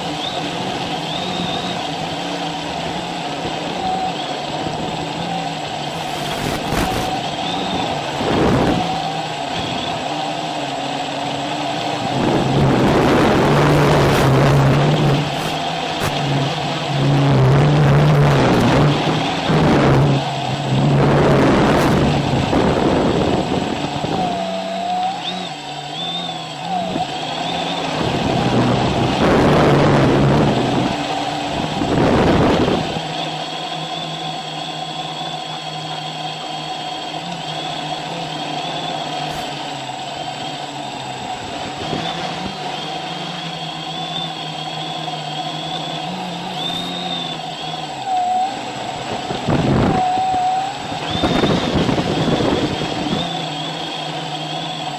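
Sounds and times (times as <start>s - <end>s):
rushes of wind noise: 0.0s - 25.8s, 26.6s - 33.9s, 37.4s - 54.9s
drone propellers whining: 0.0s - 54.9s.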